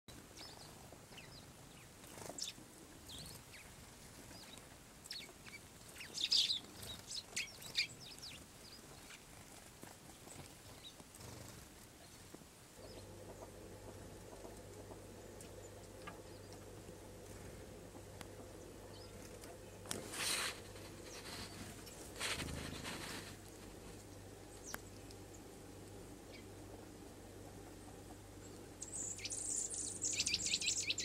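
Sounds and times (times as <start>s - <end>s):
low steady hum: 0.1s - 31.0s
sparrows chirping: 0.3s - 31.0s.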